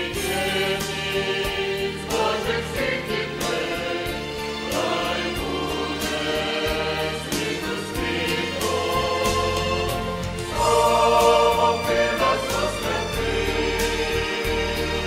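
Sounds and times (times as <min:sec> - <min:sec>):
choir singing a hymn: 0:00.0 - 0:15.0
low instrumental accompaniment: 0:00.0 - 0:15.0.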